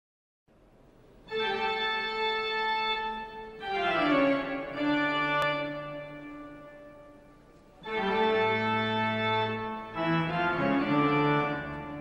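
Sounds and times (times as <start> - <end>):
organ-like keyboard chords: 1.3 - 12.0.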